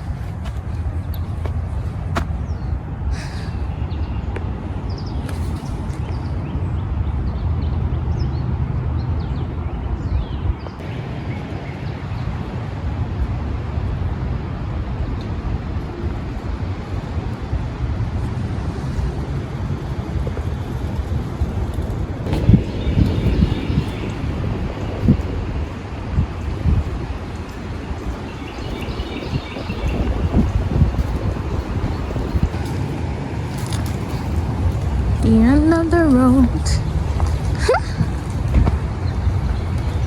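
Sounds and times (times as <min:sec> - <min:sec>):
low outdoor rumble: 0:00.0 - 0:40.0.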